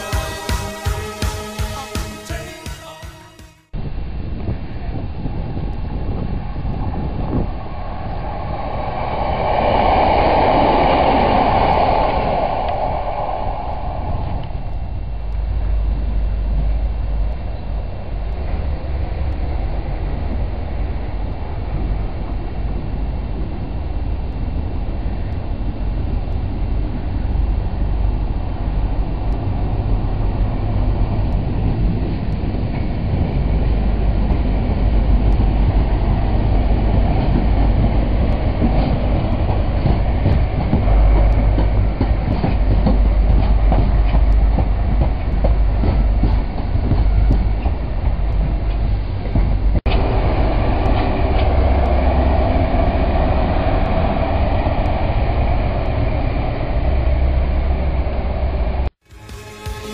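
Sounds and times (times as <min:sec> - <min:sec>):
train passing close by: 0:00.0 - 0:59.9.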